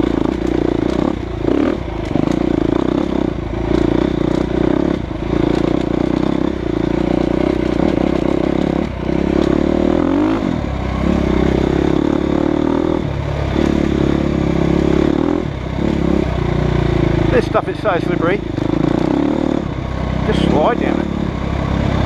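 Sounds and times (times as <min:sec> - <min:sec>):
motorcycle engine running under load: 0:00.0 - 0:22.0.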